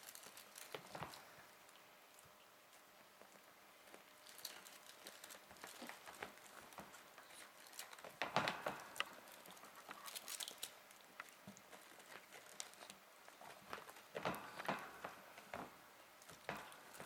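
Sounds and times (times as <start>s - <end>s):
kittens scuffling: 0.0s - 17.0s
light rustling and scratching: 0.0s - 17.0s.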